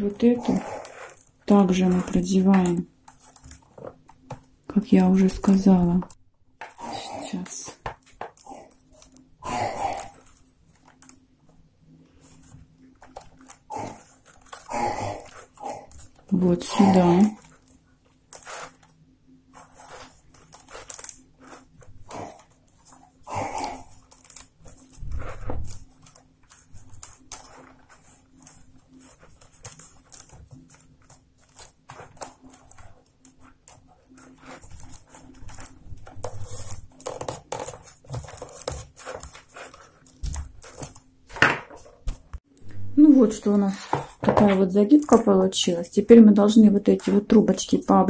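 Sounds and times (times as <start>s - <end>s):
paper tubes rustling and scraping: 0.0s - 9.2s, 12.0s - 42.4s, 43.4s - 47.8s.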